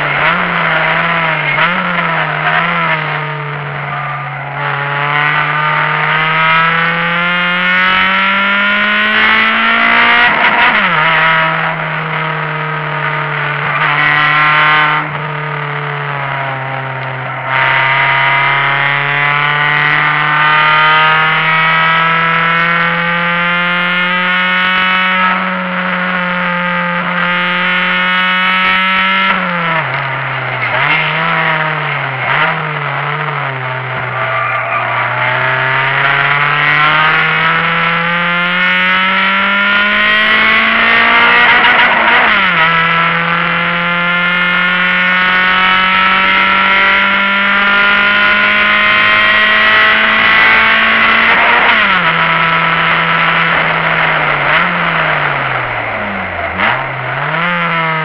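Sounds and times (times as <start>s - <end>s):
car engine at hard throttle: 0.0s - 58.0s.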